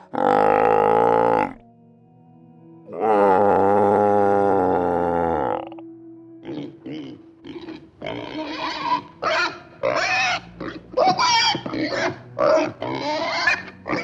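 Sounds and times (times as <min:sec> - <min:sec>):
pig squealing and grunting: 0:00.0 - 0:01.6, 0:03.0 - 0:05.8, 0:06.4 - 0:14.0.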